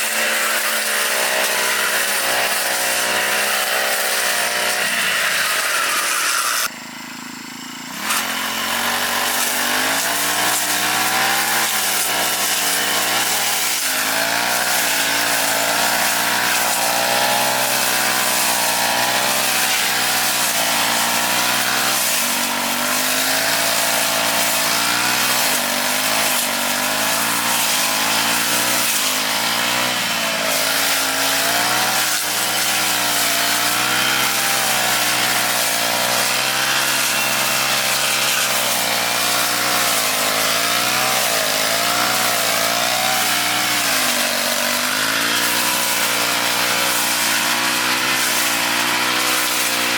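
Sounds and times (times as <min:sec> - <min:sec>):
grass cutter engine running: 0:00.0 - 0:49.9.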